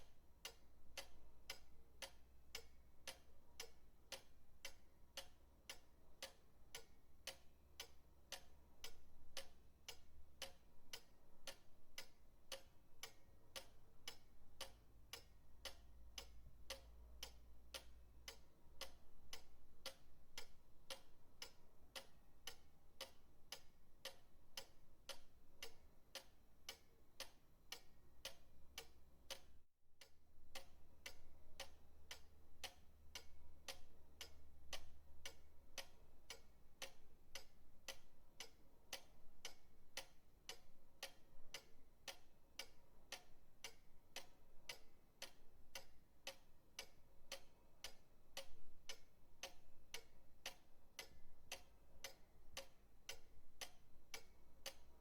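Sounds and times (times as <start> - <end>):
pendulum clock ticking: 0.0 - 55.0.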